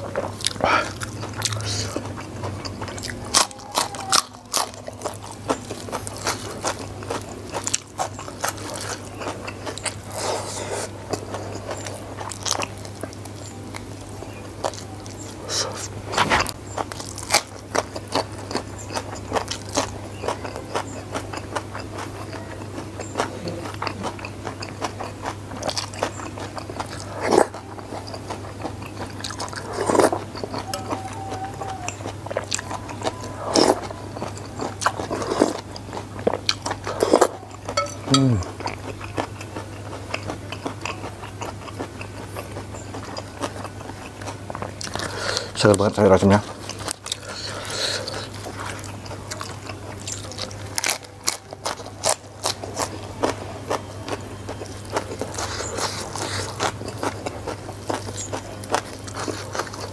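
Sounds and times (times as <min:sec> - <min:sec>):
crunching and chewing food: 0:00.0 - 0:59.9.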